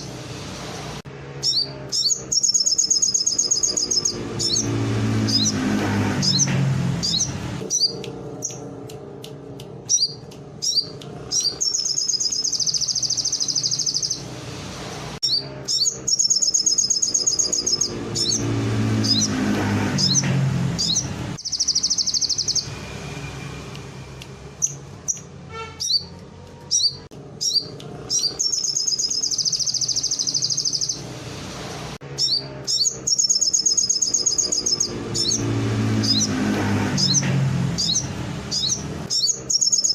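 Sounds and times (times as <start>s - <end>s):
songbird chirping and trilling: 1.4s - 14.4s, 15.2s - 31.1s, 32.1s - 39.9s.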